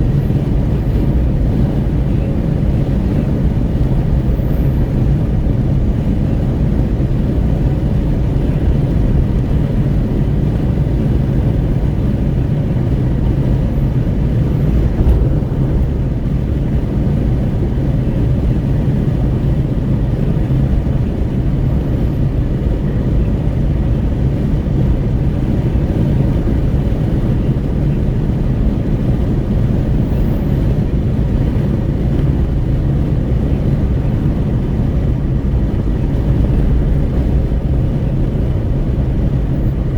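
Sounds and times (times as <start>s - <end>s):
road rumble: 0.0s - 39.9s
wind rushing at car window: 0.0s - 39.9s.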